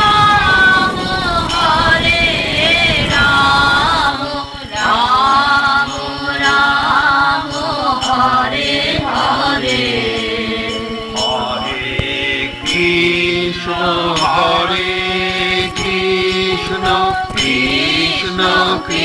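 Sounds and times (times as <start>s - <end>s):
voices singing a devotional chant: 0.0s - 19.0s.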